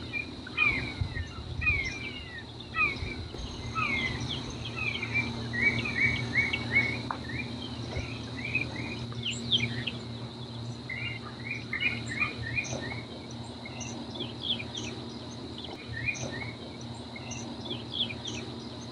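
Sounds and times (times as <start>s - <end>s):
high insect drone: 0.0s - 18.9s
low steady hum: 0.0s - 18.9s.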